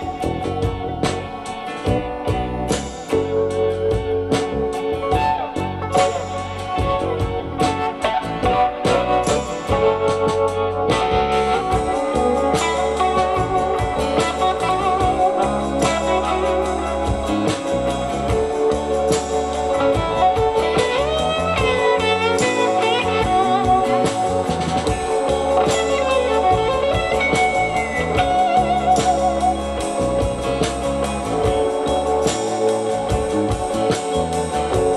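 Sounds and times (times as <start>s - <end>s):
guitar music over loudspeakers: 0.0s - 34.9s.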